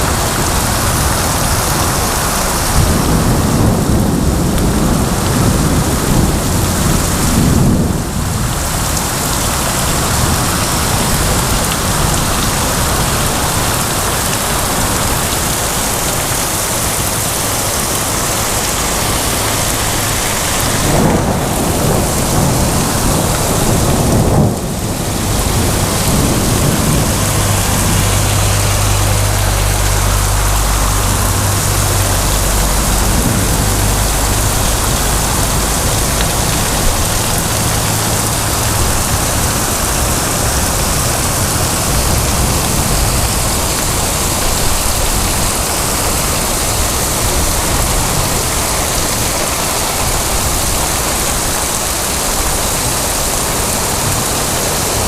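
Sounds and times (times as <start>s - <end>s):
low thunder rumble: 0.0s - 51.5s
heavy rain pouring: 0.0s - 55.0s.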